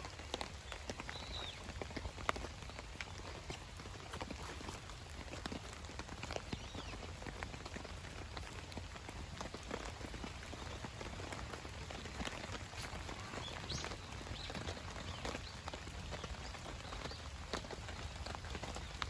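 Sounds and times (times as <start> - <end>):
rain on a tarp: 0.0 - 19.0.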